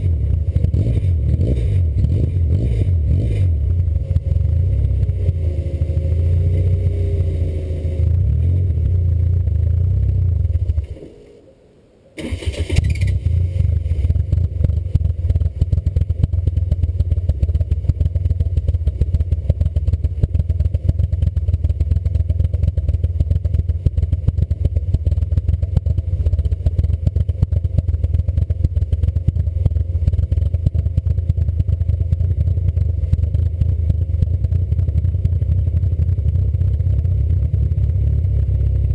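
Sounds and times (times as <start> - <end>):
car engine lumpy idle: 0.0 - 11.0, 12.8 - 38.9.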